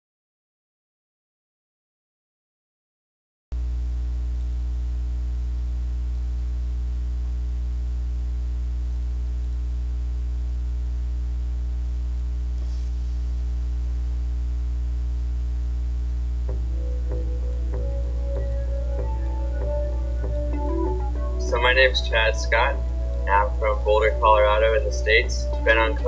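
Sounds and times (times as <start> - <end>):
electrical mains hum: 3.6 - 26.0.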